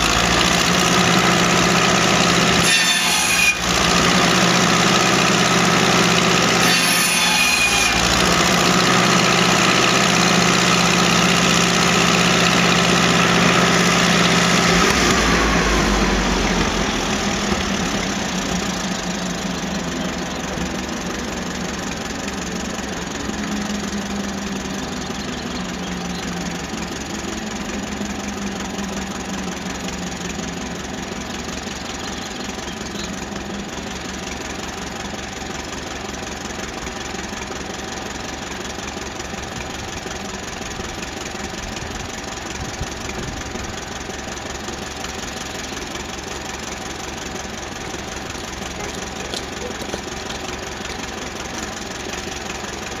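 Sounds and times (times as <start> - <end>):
tractor engine idling: 0.0 - 6.7, 7.6 - 53.0.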